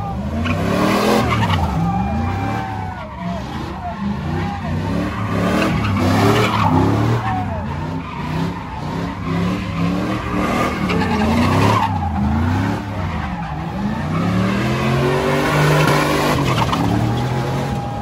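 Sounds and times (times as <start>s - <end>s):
car engine revving: 0.0s - 18.0s
tires skidding on pavement: 0.0s - 18.0s.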